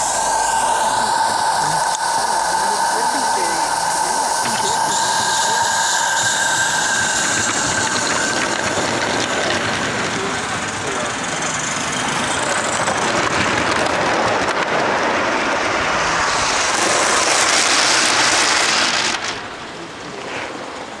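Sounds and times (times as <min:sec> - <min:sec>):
steam locomotive hissing: 0:00.0 - 0:20.7
wheels rolling on rail: 0:00.0 - 0:21.0.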